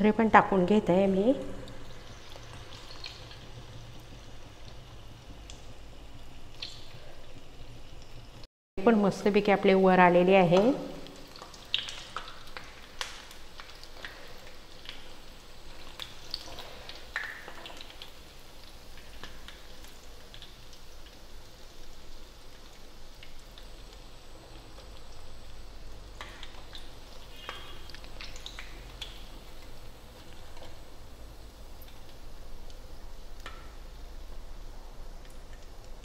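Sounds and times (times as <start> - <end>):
fritters sizzling in hot oil: 0.1 - 36.0.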